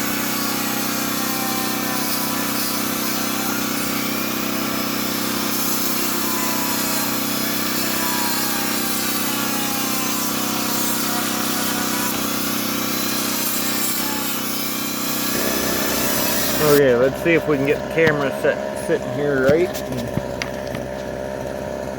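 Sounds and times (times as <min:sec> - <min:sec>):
generator engine running: 0:00.0 - 0:21.9
rotary tool grinding saw chain: 0:00.0 - 0:21.9.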